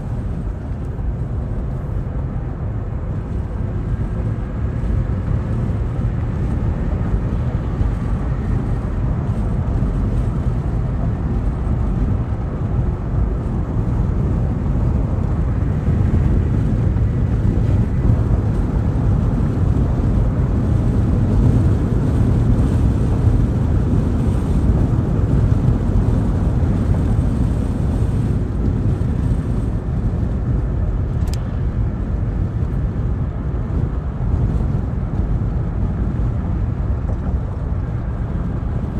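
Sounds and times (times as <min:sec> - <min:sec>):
road and tyre rumble: 0:00.0 - 0:38.9
wind noise: 0:00.0 - 0:38.9.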